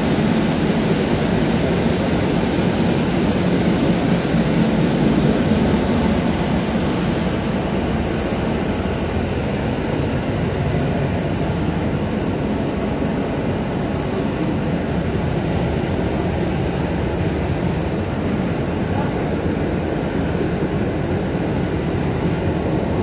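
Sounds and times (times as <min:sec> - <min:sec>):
train running noise: 0:00.0 - 0:23.0.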